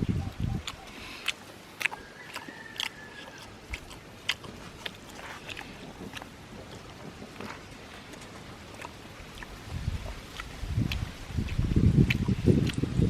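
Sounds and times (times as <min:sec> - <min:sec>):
person chewing food: 0:00.3 - 0:13.0.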